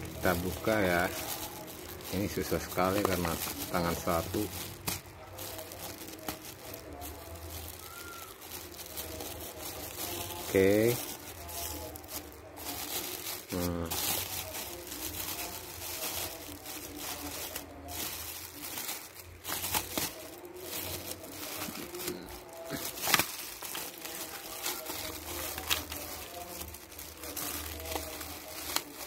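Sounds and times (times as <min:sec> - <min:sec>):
plastic bag crinkling: 0:00.0 - 0:29.0.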